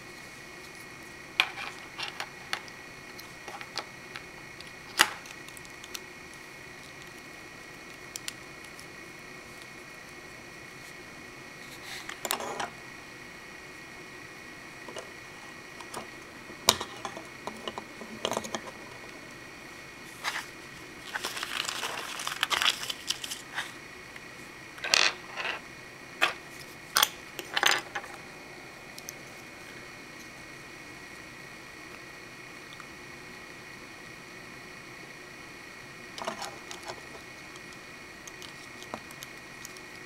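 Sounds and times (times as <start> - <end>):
faint high-pitched hum: 0.0 - 40.0.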